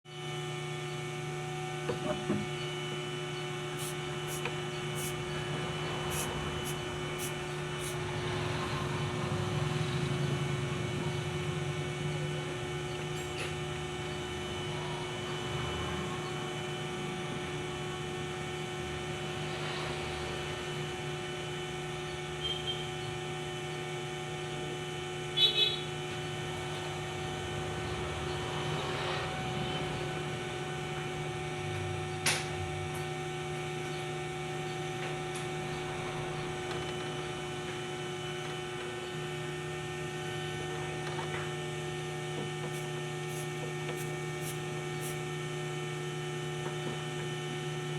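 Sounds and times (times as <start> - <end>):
electrical hum: 0.1 - 47.9.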